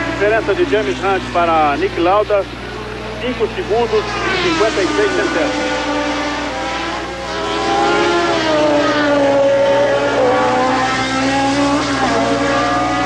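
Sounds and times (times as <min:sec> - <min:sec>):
race car engine passing at high revs: 0:00.0 - 0:13.0.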